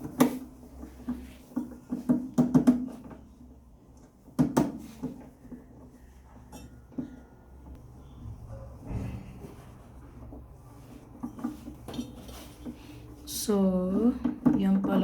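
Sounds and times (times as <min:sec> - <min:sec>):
knocks and clatters of tools: 0:00.0 - 0:07.8, 0:08.5 - 0:13.0.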